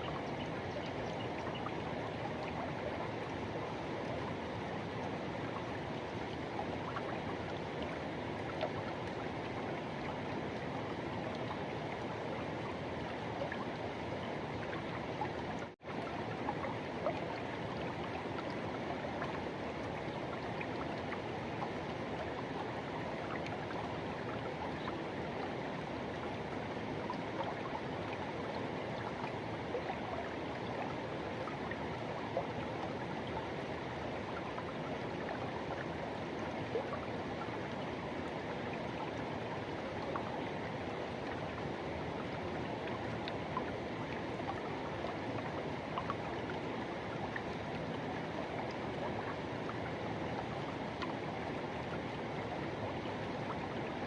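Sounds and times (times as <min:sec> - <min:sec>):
river rushing over its bed: 0:00.0 - 0:54.0
small water splashes: 0:00.0 - 0:54.0.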